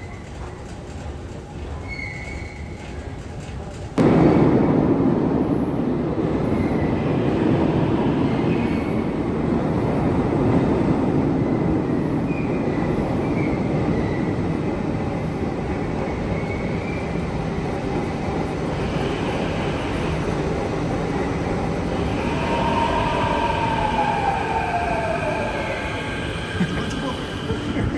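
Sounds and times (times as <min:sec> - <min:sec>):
train wheels rumbling on track: 0:00.0 - 0:27.9.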